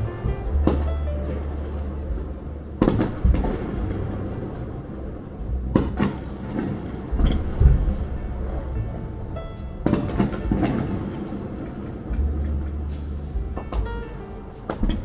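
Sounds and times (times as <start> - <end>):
music with low bass: 0.0 - 15.0.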